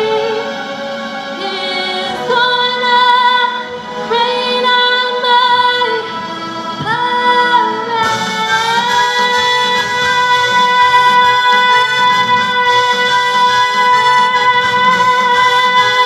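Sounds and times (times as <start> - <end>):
woman singing into a microphone: 0.0 - 0.6, 1.4 - 16.0
musical accompaniment: 0.0 - 16.0.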